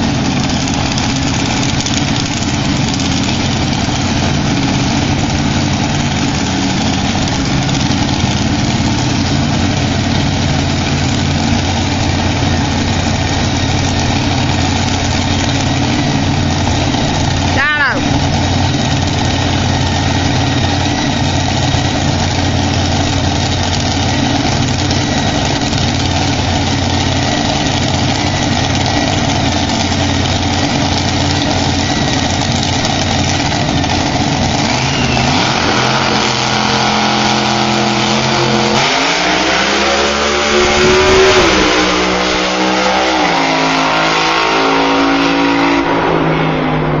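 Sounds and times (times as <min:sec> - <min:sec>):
dragster engine revving: 0:00.0 - 0:47.0.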